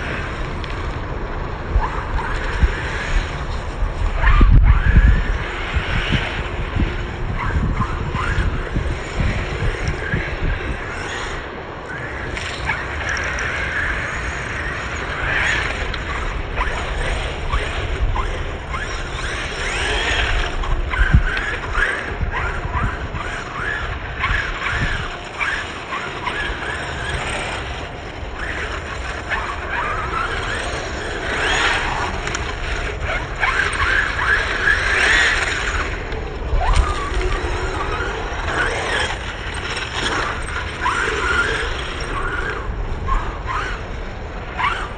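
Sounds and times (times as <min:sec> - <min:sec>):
electric motor whining: 0:00.0 - 0:44.9
wind noise on microphone: 0:00.0 - 0:44.9.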